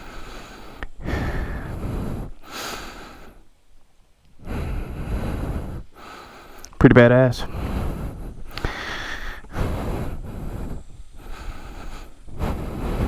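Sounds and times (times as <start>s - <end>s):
person breathing: 0.0s - 3.6s, 4.3s - 6.8s, 7.4s - 13.0s.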